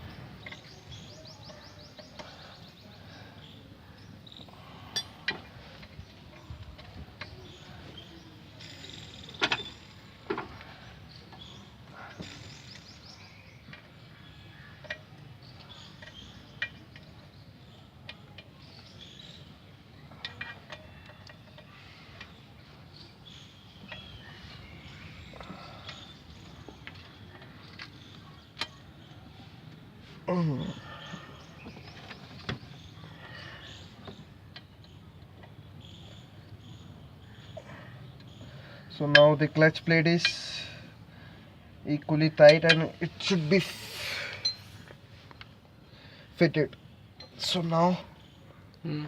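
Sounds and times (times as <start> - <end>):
steady background noise: 0.0 - 49.0.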